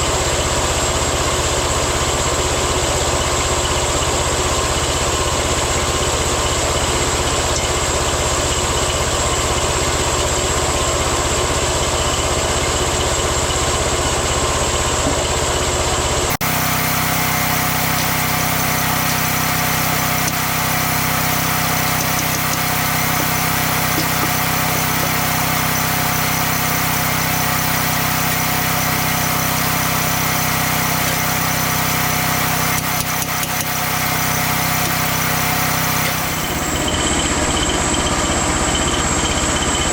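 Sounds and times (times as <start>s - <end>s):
sawmill engine running: 4.1s - 39.9s.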